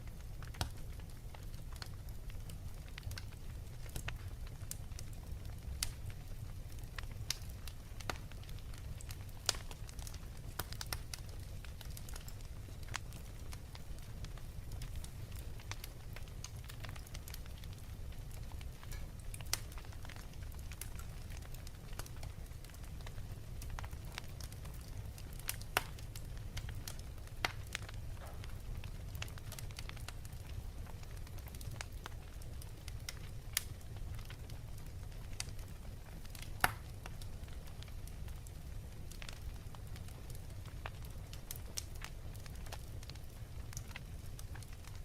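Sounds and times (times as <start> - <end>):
wood fire crackling: 0.0 - 45.0
sharp pops of fire: 0.2 - 45.0.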